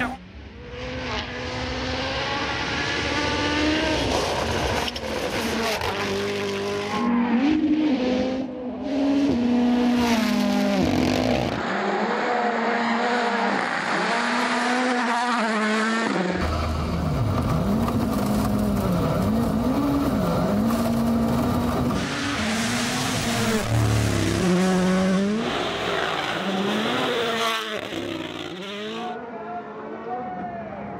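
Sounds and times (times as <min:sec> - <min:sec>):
rally car engines revving: 0:00.0 - 0:30.4.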